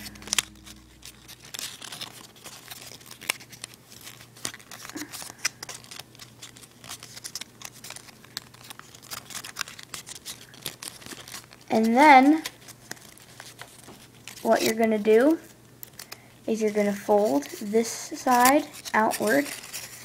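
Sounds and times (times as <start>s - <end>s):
faint steady hum: 0.0s - 20.0s
paper crinkling and rustling: 0.0s - 20.0s.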